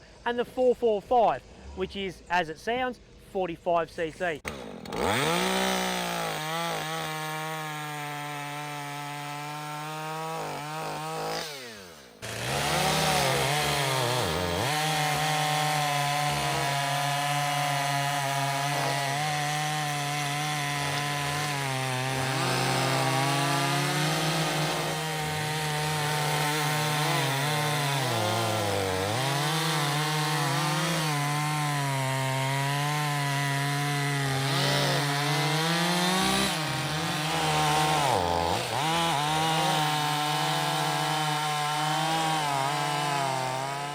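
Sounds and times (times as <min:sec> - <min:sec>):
chainsaw cutting wood: 0:04.4 - 0:43.9.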